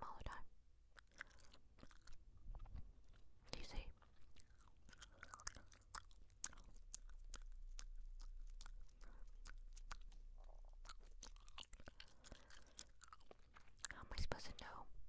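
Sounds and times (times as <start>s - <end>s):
gum chewing: 0.9s - 14.7s.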